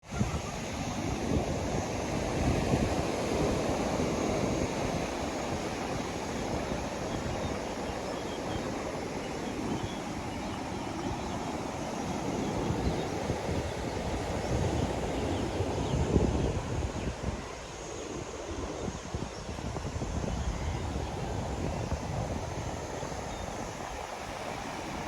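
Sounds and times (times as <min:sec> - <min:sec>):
waves washing onto a beach: 0:00.0 - 0:25.0.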